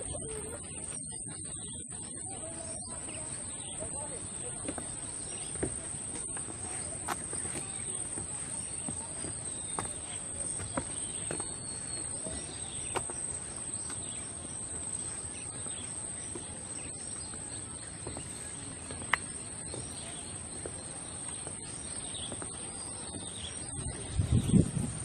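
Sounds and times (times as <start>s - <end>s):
birds chirping faintly: 0.0s - 25.0s.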